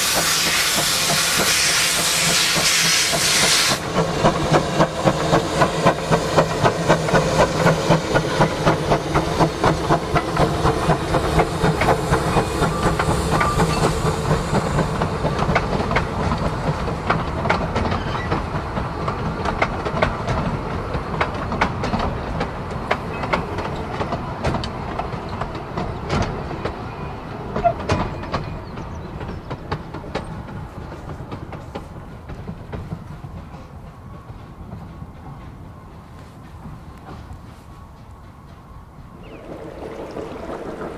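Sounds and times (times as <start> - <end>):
coaches clicking over rail joints: 0.0 - 40.9
steam locomotive exhaust beats: 0.0 - 40.9.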